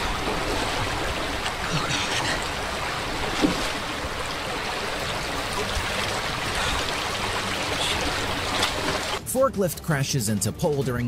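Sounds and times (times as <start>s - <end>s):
creek water rushing: 0.0s - 9.2s.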